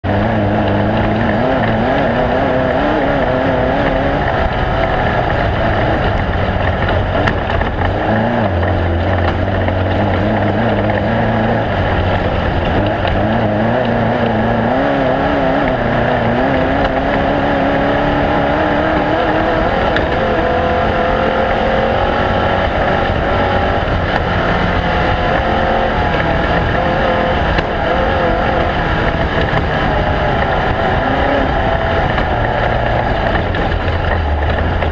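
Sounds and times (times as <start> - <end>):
race vehicle engine revving: 0.0 - 34.9
vehicle rumble at speed: 0.0 - 34.9.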